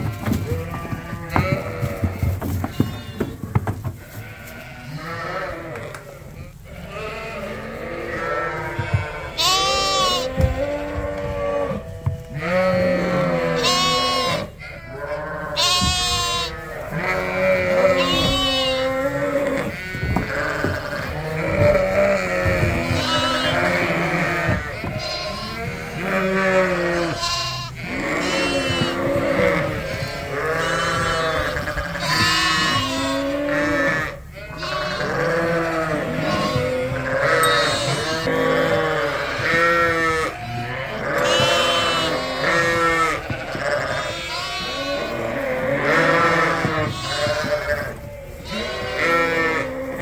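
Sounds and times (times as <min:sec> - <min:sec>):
sheep and lambs bleating: 0:00.0 - 0:50.0.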